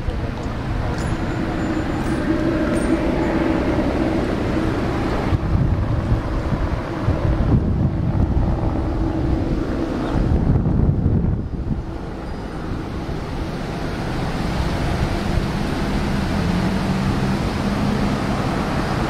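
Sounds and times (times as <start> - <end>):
helicopter rotor rumble: 0.0 - 19.0
wind buffeting microphone: 0.0 - 19.0.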